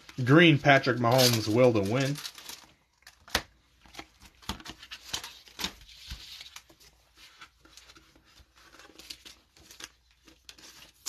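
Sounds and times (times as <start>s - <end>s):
cards clicking and rustling: 0.0s - 11.0s.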